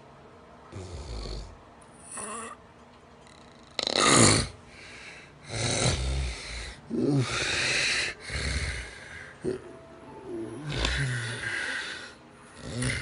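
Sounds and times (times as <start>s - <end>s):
person snoring: 0.7s - 2.6s, 3.4s - 13.0s.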